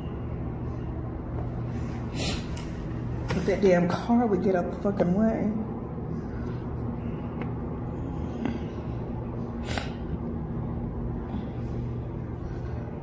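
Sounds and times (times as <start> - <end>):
low street hum: 0.0 - 13.0.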